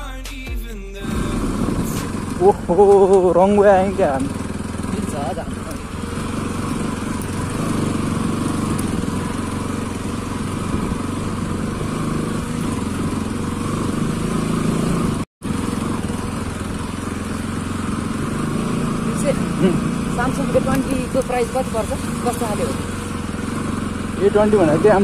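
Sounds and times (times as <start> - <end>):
motorcycle engine running: 1.0 - 25.0.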